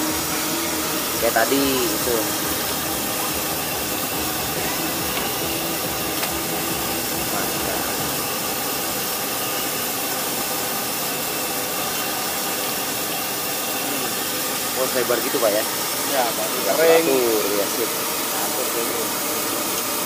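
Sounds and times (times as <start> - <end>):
noodles sizzling in hot oil: 0.0 - 20.0.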